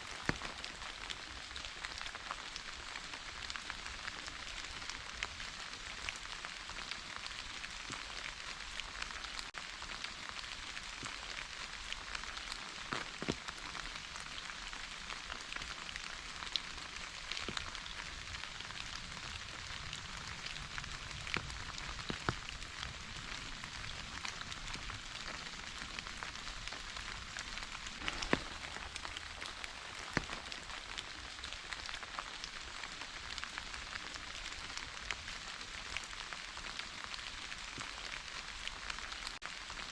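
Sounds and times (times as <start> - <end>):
raindrops tapping: 0.0 - 39.9
soft rain hissing: 0.0 - 39.9.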